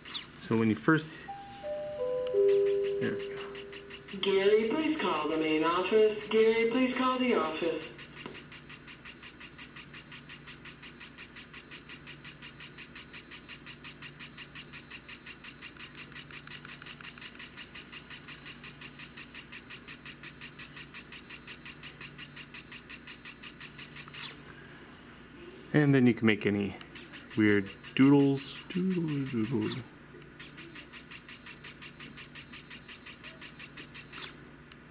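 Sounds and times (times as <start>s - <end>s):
faint steady hum: 0.0s - 34.9s
printing pen motor ticking: 2.5s - 24.4s, 27.0s - 29.8s, 30.4s - 34.4s.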